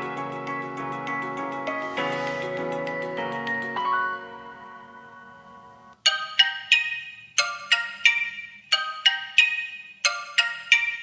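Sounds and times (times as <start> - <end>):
mallet-like ringtone melody: 1.2 - 11.0.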